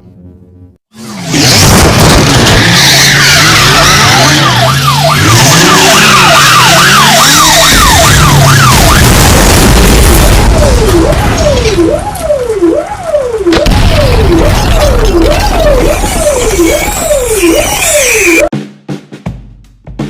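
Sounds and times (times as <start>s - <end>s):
siren-like wail: 0.9s - 18.5s.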